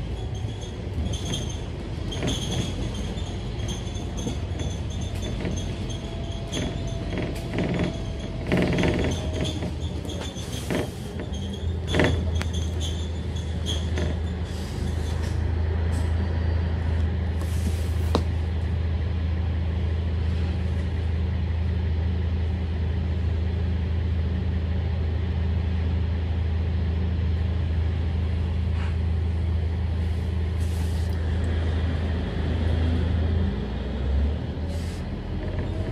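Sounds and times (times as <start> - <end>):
bus engine droning: 0.0 - 35.9
bus interior creaking and rattling: 0.0 - 35.9.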